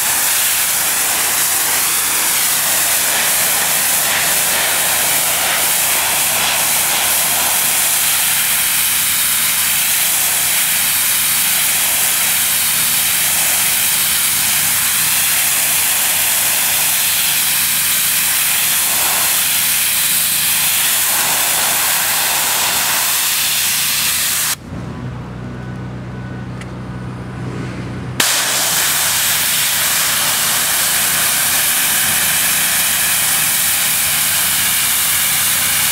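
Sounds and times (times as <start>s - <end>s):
pressure washer jet hissing: 0.0s - 24.6s, 28.2s - 35.9s.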